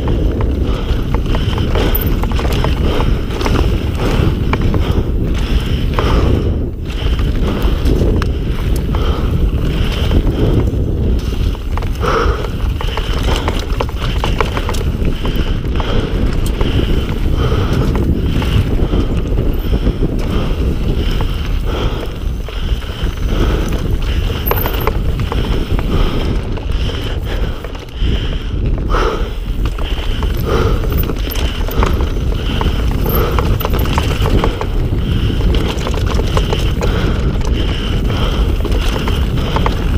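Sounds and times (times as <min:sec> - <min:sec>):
bike rattling and knocking: 0:00.0 - 0:39.9
wind rush on microphone: 0:00.0 - 0:39.9.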